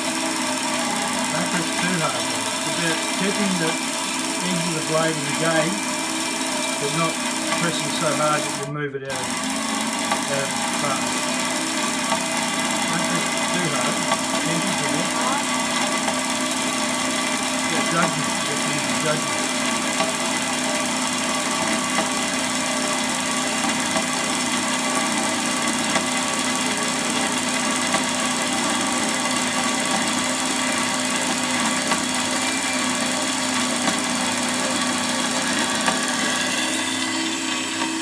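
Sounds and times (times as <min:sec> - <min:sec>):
bandsaw cutting metal: 0:00.0 - 0:38.0.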